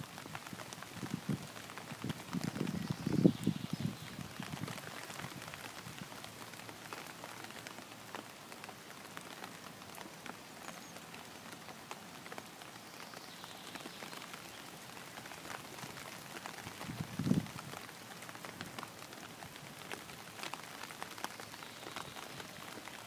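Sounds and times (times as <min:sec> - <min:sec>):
rain falling on a pond: 0:00.0 - 0:23.0.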